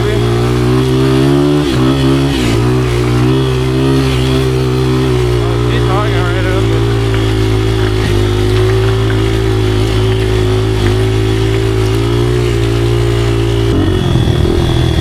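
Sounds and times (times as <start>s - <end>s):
small motorcycle engine laboring: 0.0s - 15.0s.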